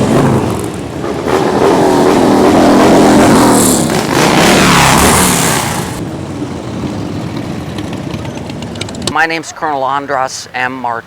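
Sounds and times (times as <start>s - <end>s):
motorcycle engines passing: 0.0s - 9.6s.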